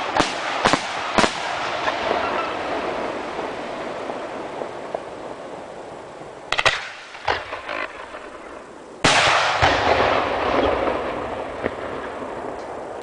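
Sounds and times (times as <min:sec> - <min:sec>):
firework crackles: 0:00.0 - 0:13.0.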